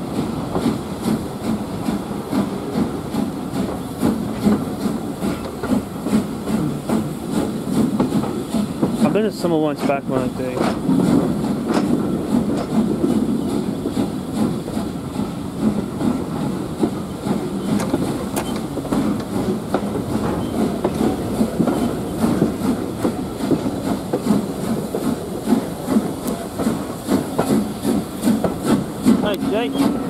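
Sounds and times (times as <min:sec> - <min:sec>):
train coaches rumbling: 0:00.0 - 0:30.0.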